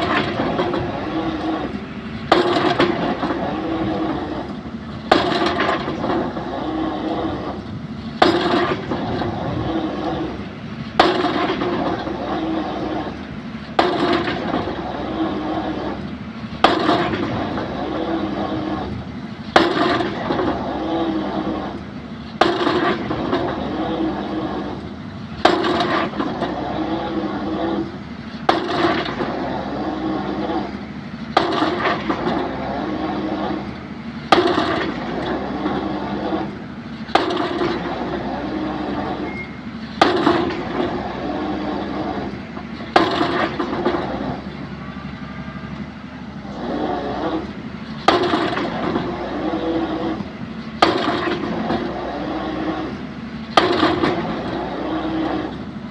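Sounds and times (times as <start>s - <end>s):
excavator engine and hydraulics: 0.0s - 55.9s.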